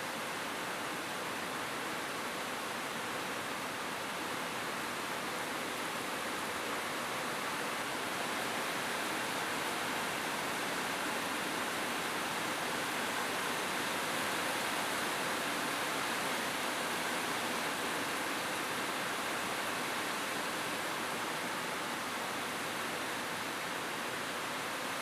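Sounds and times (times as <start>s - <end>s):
rain falling on a roof: 0.0s - 25.0s.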